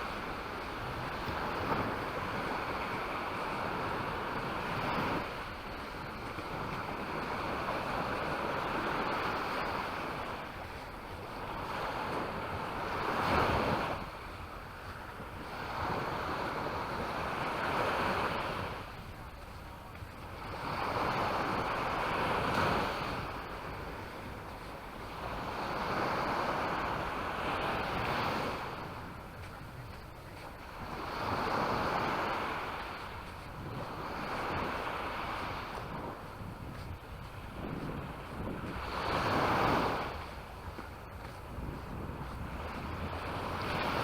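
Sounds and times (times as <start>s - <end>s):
small waves breaking on shore: 0.0s - 44.0s.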